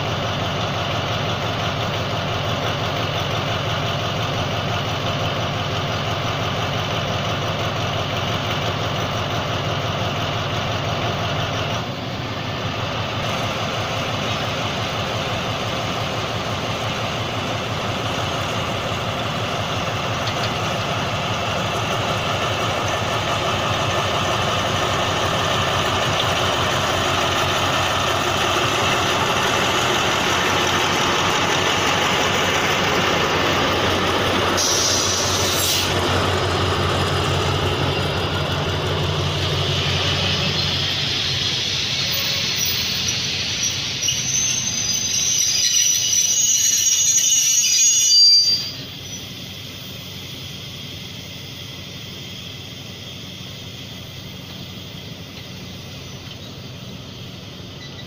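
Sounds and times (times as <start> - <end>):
locomotive engine idling: 0.0 - 58.0.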